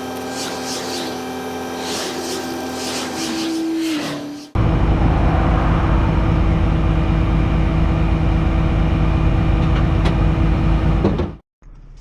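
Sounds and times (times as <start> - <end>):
truck engine droning with whine: 0.0 - 11.3.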